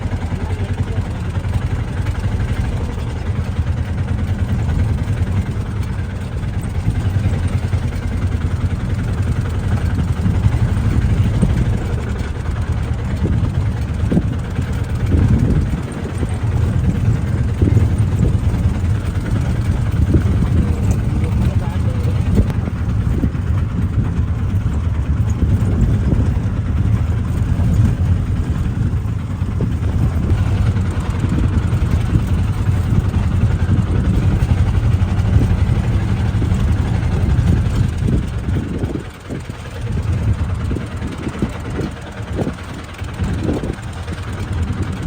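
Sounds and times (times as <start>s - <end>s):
vehicle engine and road rumble: 0.0s - 45.0s.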